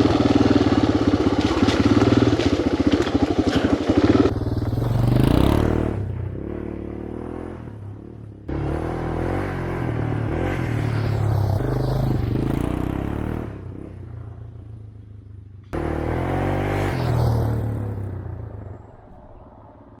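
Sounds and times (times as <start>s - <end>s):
motorcycle engine revving: 0.0s - 14.9s, 15.6s - 19.2s.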